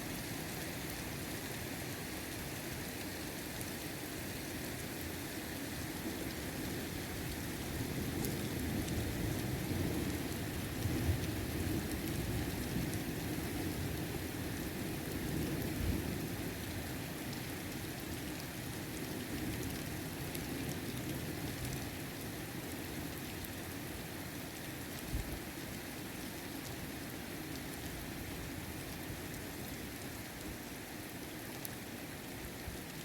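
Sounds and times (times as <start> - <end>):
heavy rain falling: 5.5 - 33.0.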